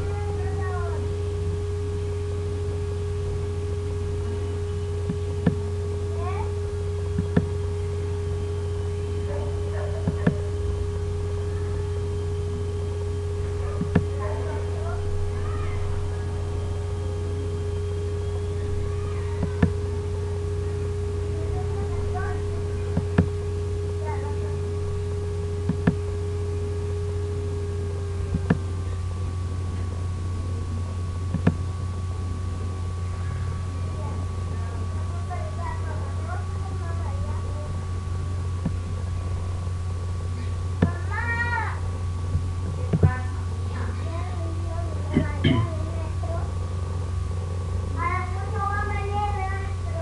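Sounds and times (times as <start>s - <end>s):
constant tone: 0.0s - 50.0s
electrical hum: 0.0s - 50.0s.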